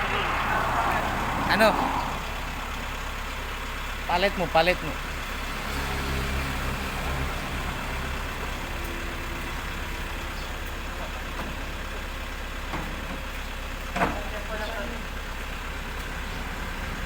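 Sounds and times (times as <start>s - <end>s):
heavy vehicle engine idling: 0.0s - 17.0s.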